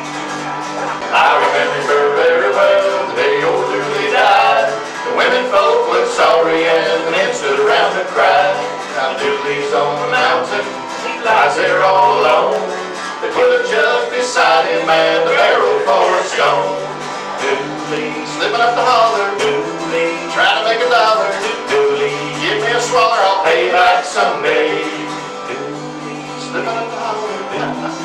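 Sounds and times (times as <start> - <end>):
acoustic guitar: 0.0 - 28.0
men singing country song: 0.6 - 28.0.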